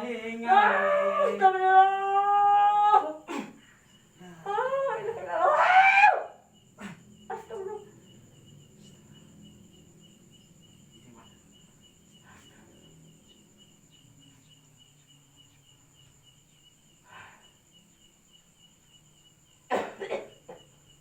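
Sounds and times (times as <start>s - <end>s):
faint insect chirping: 0.0s - 21.0s.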